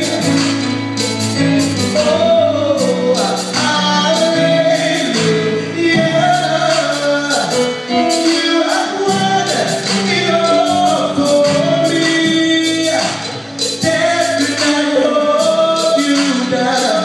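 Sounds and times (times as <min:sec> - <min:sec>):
band with steady percussion: 0:00.0 - 0:17.0
gospel group singing in harmony: 0:00.0 - 0:17.0.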